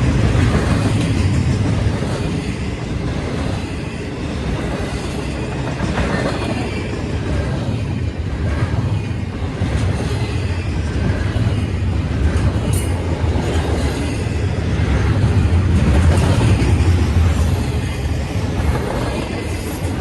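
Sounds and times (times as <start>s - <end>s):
freight train rumbling on rails: 0.0s - 20.0s.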